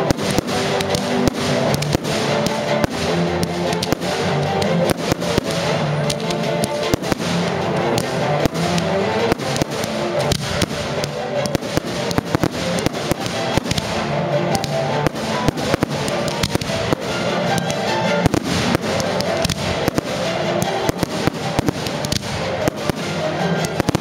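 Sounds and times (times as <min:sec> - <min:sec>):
fireworks bursting: 0:00.0 - 0:24.0
music: 0:00.0 - 0:24.0.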